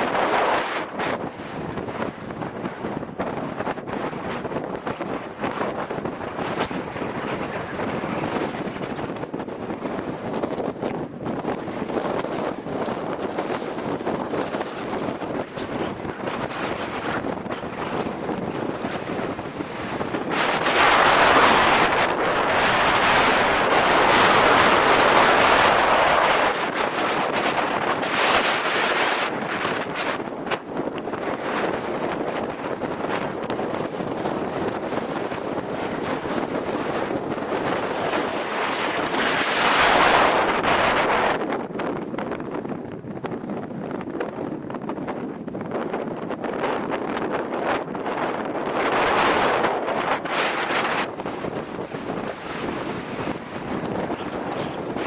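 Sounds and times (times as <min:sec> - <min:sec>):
gusty wind buffeting microphone: 0:00.0 - 0:55.0.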